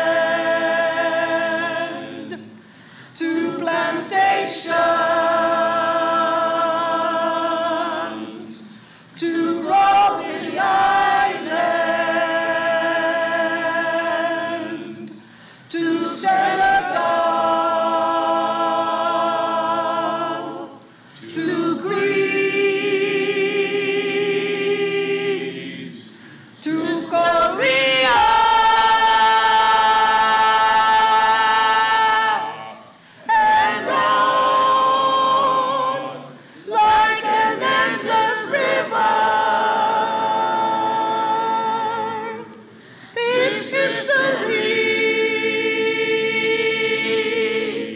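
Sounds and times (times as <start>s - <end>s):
group singing a cappella: 0.0s - 47.9s.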